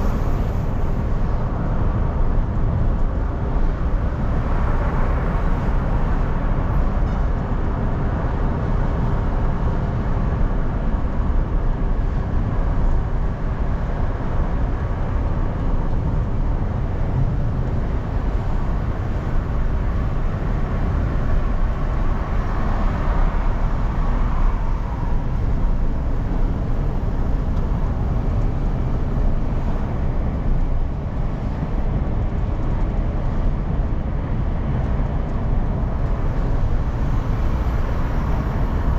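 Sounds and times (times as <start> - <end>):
car tyres and engine rumble: 0.0 - 38.9.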